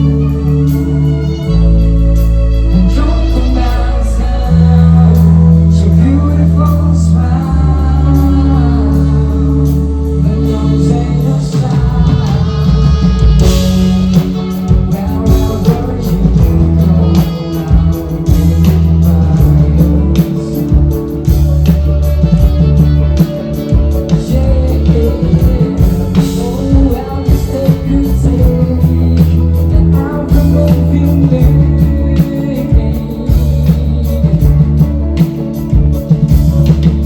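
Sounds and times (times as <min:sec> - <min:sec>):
drums: 0:00.0 - 0:37.0
live rock band playing: 0:00.0 - 0:37.0.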